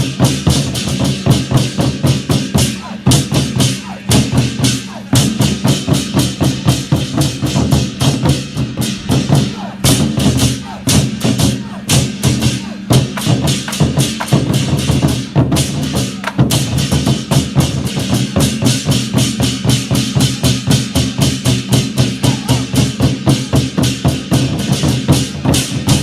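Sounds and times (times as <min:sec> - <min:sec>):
war drums beating fast: 0:00.0 - 0:26.0.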